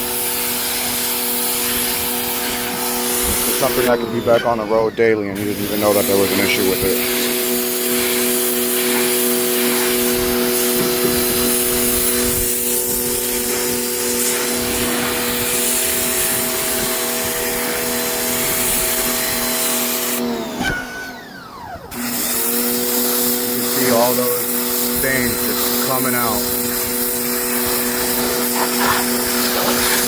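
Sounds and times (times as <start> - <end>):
water jet hissing on fabric: 0.0 - 4.6, 5.4 - 20.2, 22.4 - 30.0
pressure washer motor whine: 0.0 - 30.0.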